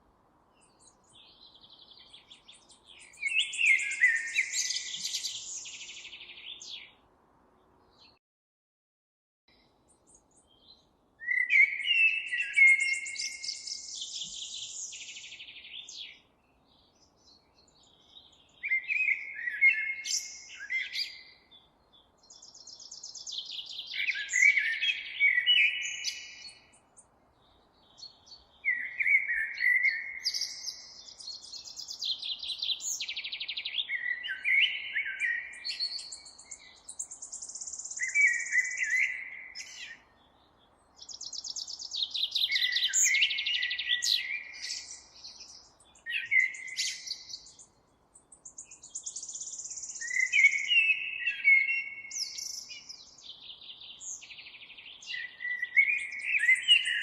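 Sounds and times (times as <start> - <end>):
songbird singing trills: 0.6 - 7.0, 9.5 - 57.0.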